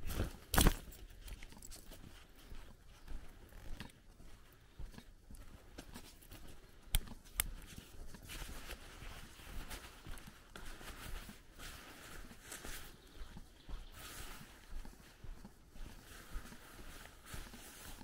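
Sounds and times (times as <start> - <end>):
fabric rustling on microphone: 0.0 - 6.8, 7.5 - 18.0
footsteps on dirt path: 0.0 - 18.0.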